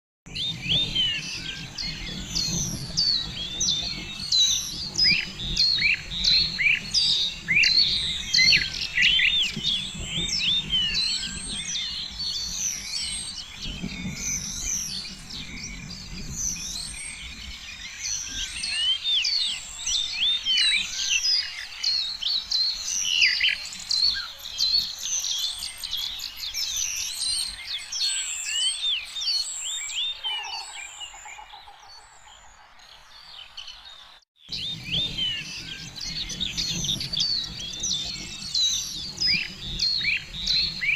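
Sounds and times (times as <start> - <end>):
small birds chirping chorus: 0.2 - 40.9.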